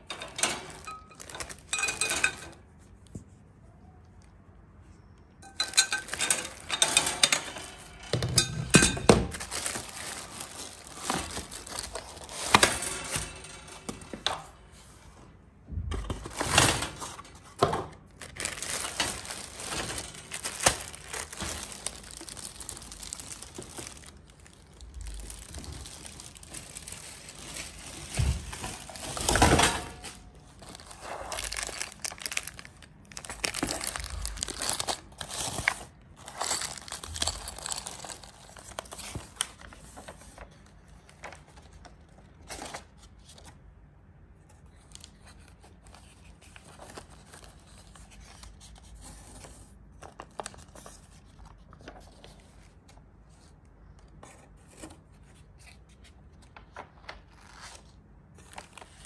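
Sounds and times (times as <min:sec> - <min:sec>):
plastic wrapping crinkling and tearing: 0:00.0 - 0:02.5, 0:05.4 - 0:08.1, 0:08.7 - 0:14.0, 0:16.1 - 0:43.6, 0:44.7 - 0:53.0, 0:55.0 - 0:59.0
paper pages rustling: 0:09.3 - 0:14.9, 0:16.0 - 0:43.6, 0:44.6 - 0:59.0.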